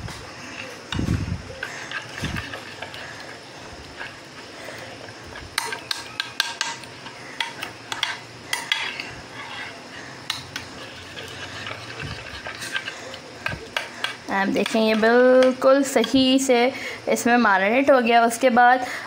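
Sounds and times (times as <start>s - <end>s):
spoon scraping thick marinade: 0.1s - 16.5s.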